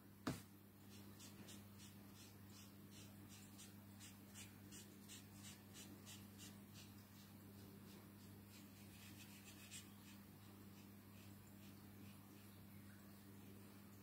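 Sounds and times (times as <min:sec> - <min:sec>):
steady low hum: 0:00.0 - 0:14.0
faint marker scratching on card: 0:00.9 - 0:12.5.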